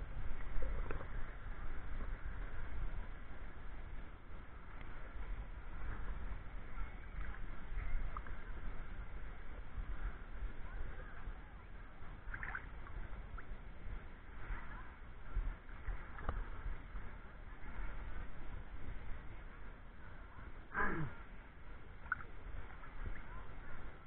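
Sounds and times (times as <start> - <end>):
muffled water lapping: 0.0 - 24.0.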